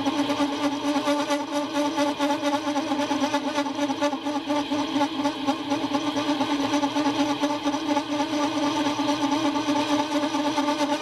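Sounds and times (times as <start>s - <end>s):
lathe ringing hum: 0.0s - 11.0s
lathe tool chatter: 0.0s - 11.0s.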